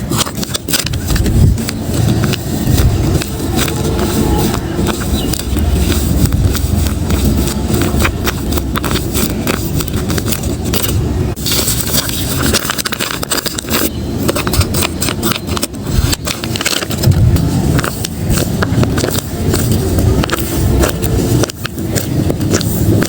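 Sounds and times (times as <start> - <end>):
paper crinkling and rustling: 0.0 - 23.0.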